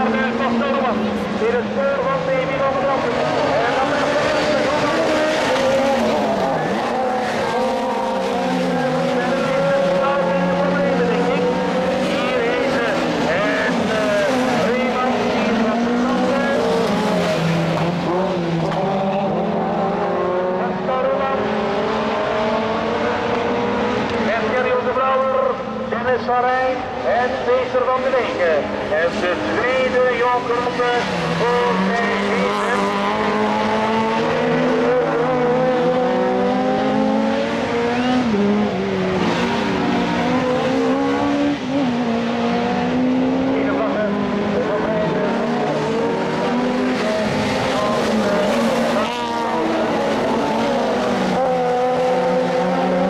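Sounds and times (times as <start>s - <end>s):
rally car engines accelerating: 0.0s - 53.0s.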